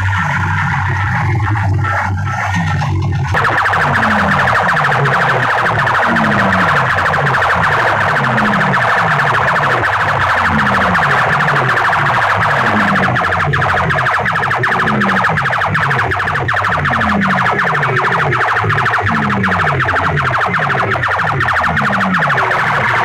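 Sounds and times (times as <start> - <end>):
distorted siren-like electronic sound: 0.0 - 23.0.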